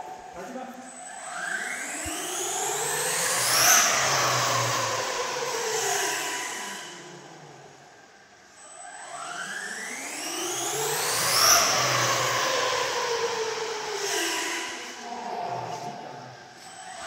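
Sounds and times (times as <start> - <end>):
electric rc car motor whine: 0.8 - 17.0.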